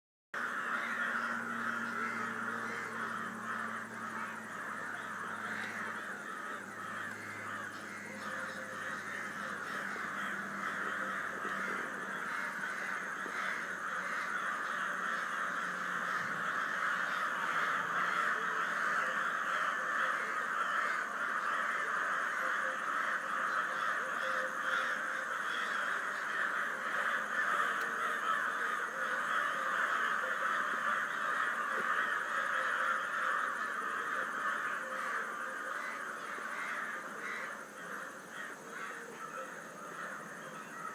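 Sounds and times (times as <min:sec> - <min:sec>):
crows cawing: 0:00.4 - 0:40.9.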